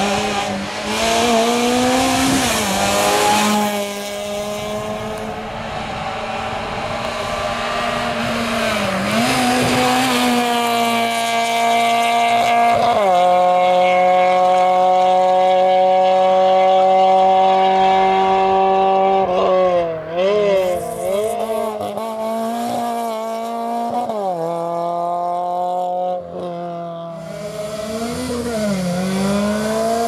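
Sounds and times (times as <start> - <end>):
car engine at high revs: 0.0 - 30.0.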